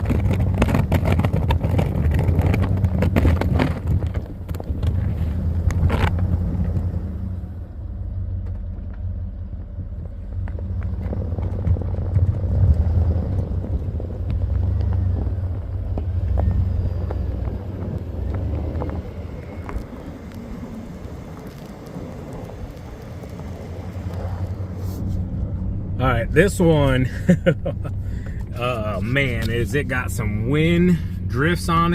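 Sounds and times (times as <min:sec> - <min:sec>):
truck engine rumbling: 0:00.0 - 0:31.9.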